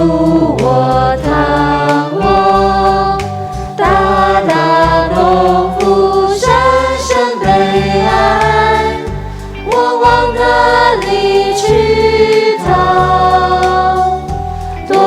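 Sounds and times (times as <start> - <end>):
bass line: 0.0 - 15.0
worship song singing: 0.0 - 15.0.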